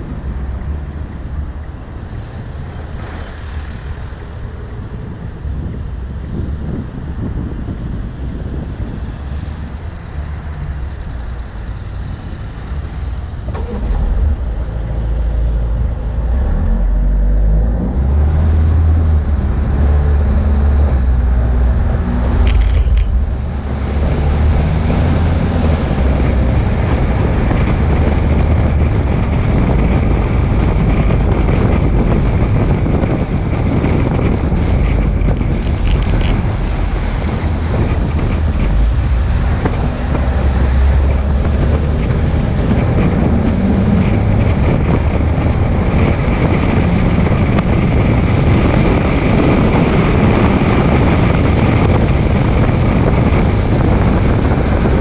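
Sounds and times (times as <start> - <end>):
vehicle rumble: 0.0 - 55.0
wind noise on microphone: 0.0 - 55.0.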